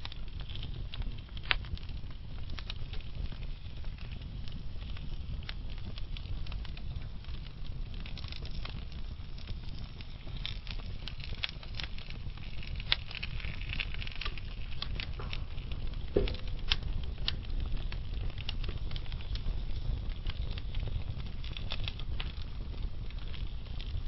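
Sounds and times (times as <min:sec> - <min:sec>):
burning logs crackling: 0:00.0 - 0:24.0
low rush of flame: 0:00.0 - 0:24.0.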